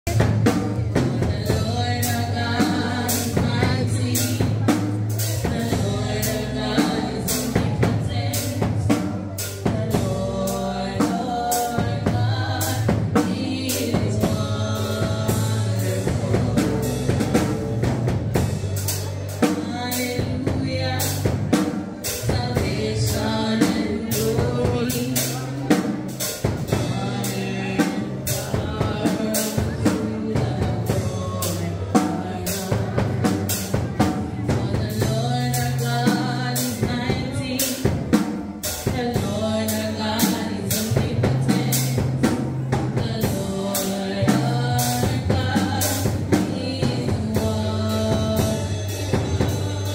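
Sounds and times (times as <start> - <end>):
drum kit beat: 0.0 - 49.9
keyboard: 0.0 - 49.9
woman singing: 0.1 - 18.1, 19.3 - 49.9.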